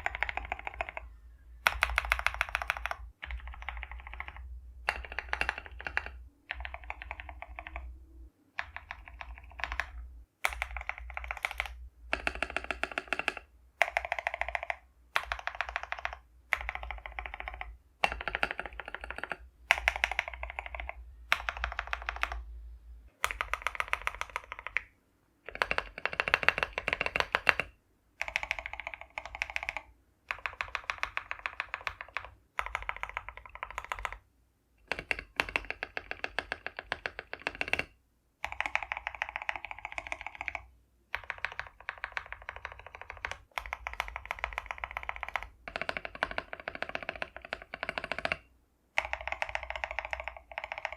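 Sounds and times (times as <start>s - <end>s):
mechanical keyboard keys clicking: 0.0s - 7.9s, 8.6s - 22.4s, 23.2s - 34.2s, 34.8s - 50.9s.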